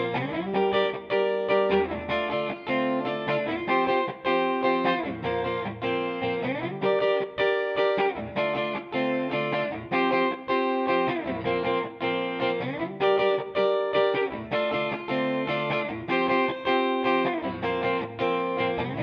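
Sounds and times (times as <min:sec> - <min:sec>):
clean electric guitar: 0:00.0 - 0:19.0.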